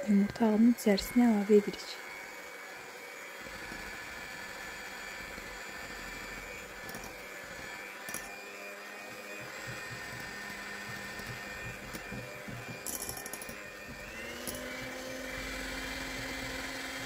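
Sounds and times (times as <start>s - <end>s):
electric hand mixer whisking: 0.0s - 17.0s.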